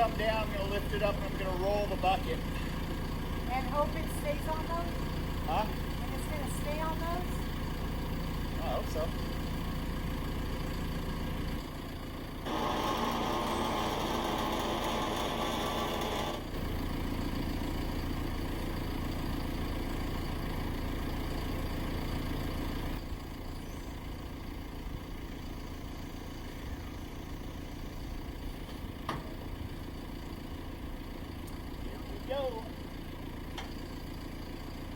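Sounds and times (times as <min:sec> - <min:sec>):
loader engine running: 0:00.0 - 0:34.9.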